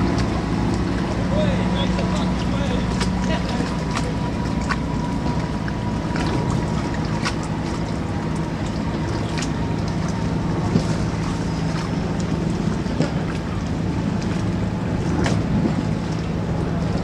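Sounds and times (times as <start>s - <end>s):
boat engine humming: 0.0s - 17.0s
water rushing along hull: 0.0s - 17.0s.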